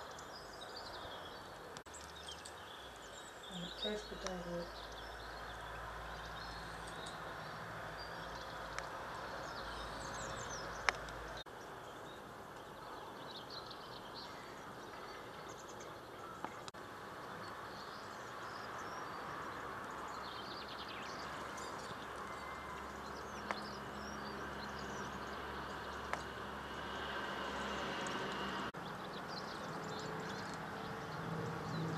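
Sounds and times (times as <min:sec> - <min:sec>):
outdoor background noise: 0:00.0 - 0:31.9
small birds chirping: 0:00.0 - 0:31.9.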